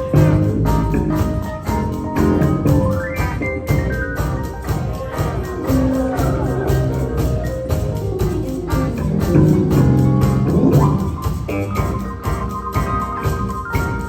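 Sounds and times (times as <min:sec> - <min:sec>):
bass guitar: 0:00.0 - 0:14.0
piano: 0:00.0 - 0:14.0
saxophone ensemble playing jazz: 0:00.0 - 0:14.0.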